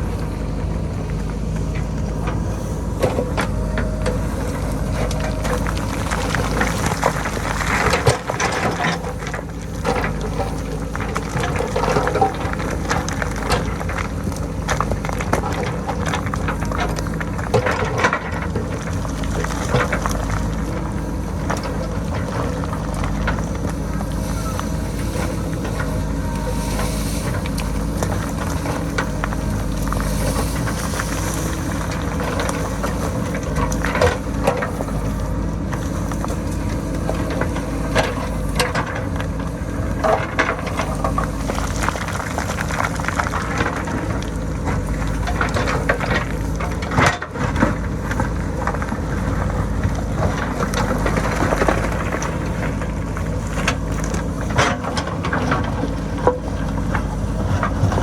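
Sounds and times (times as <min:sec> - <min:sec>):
diesel engine under load: 0:00.0 - 0:58.0
rocks and stones clattering: 0:01.6 - 0:58.0.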